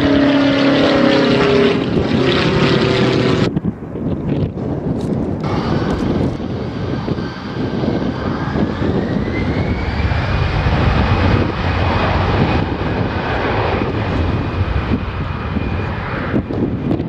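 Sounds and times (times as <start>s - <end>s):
heavy low rumble: 0.0s - 17.0s
jet engine whine: 0.0s - 17.0s.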